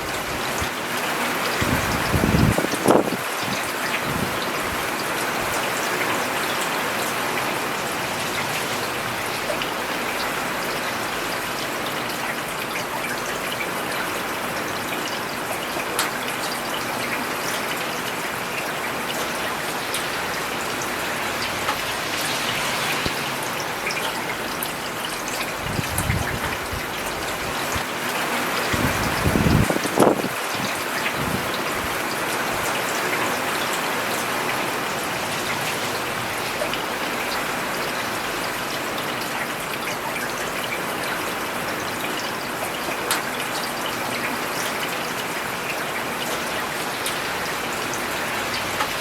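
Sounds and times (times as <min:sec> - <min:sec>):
rain falling on a road: 0:00.0 - 0:49.0
raindrops splashing: 0:00.0 - 0:49.0.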